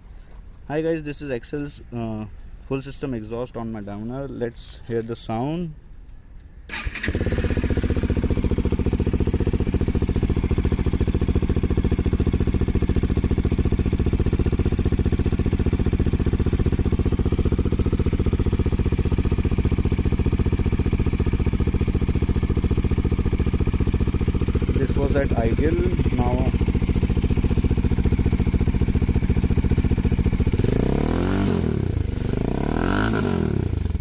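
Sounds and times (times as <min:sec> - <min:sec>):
motorcycle engine idling: 0:06.7 - 0:34.0.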